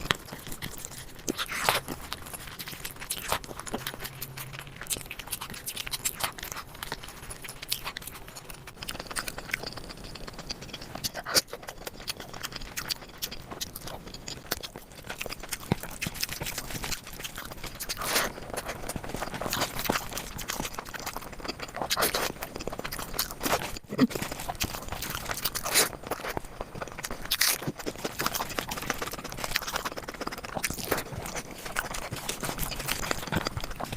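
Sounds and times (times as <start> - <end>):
lip smacking: 0.0 - 33.9
wet chewing: 0.0 - 33.9.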